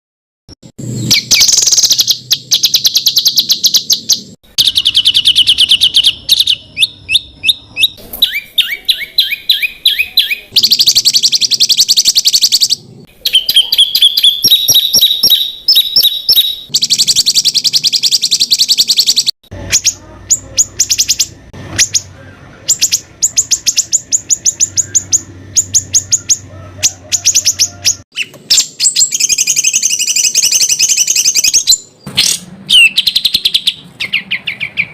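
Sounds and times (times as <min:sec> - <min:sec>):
songbird rapid high notes: 0:00.8 - 0:34.9.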